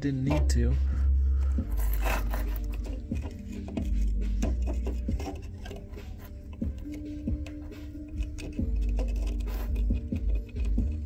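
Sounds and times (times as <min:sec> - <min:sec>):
background music: 0:00.0 - 0:11.0
steel tool scraping metal: 0:01.7 - 0:11.0.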